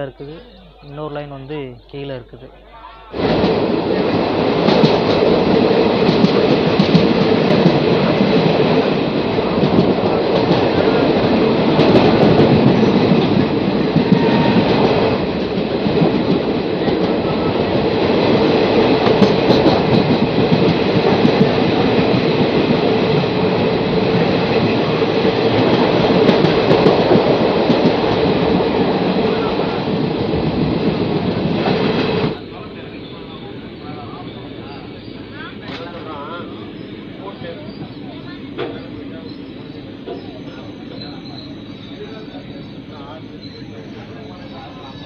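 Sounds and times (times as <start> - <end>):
train wheels on rails: 3.0 - 45.0.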